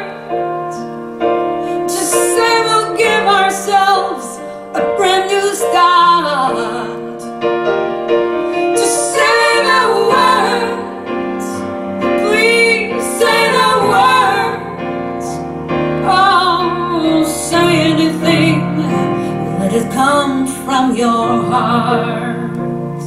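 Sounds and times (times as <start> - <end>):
piano: 0.0 - 23.0
woman singing a ballad: 1.7 - 7.4, 8.8 - 15.4, 16.0 - 23.0.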